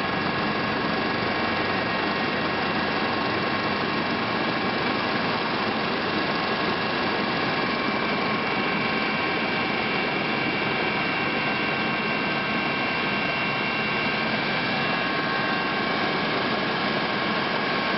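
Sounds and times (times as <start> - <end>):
aircraft engine drone in cabin: 0.0 - 17.9
high steady whining tones: 0.0 - 17.9.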